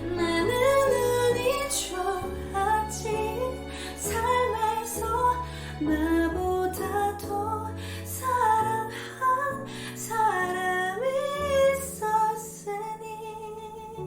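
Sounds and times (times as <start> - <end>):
woman singing pop ballad: 0.0 - 14.0.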